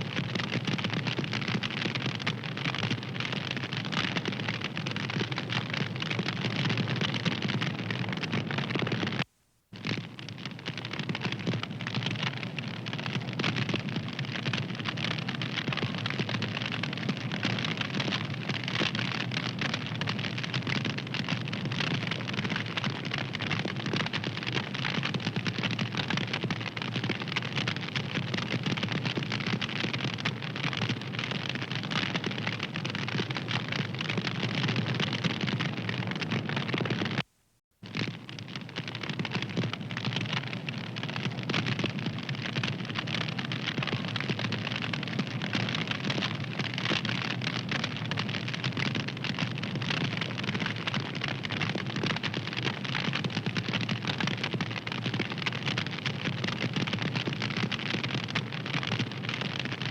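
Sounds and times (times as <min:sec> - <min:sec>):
wood fire crackling: 0:00.1 - 0:56.7.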